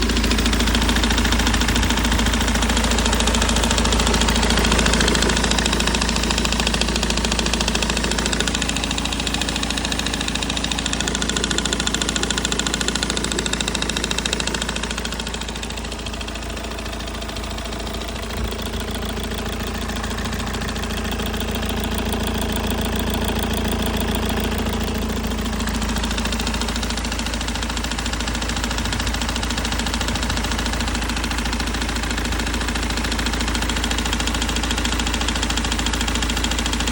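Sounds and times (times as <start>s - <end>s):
diesel engine knocking: 0.0s - 36.9s.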